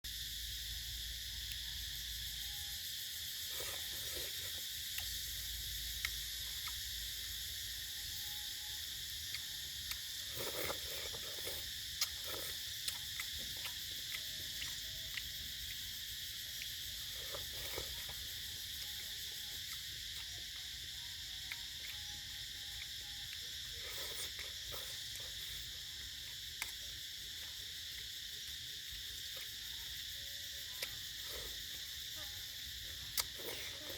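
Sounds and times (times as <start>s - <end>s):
crickets and insects chirring: 0.0s - 33.9s.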